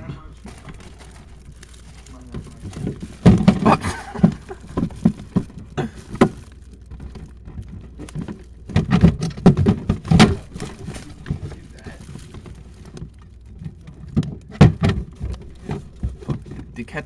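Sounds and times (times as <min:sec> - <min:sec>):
food containers knocking and clattering: 0:00.0 - 0:17.0.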